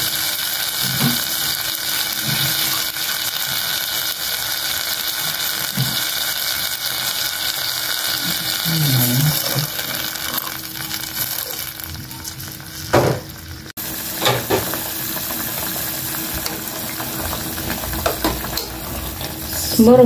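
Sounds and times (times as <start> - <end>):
vegetables simmering in pot: 0.0 - 20.0.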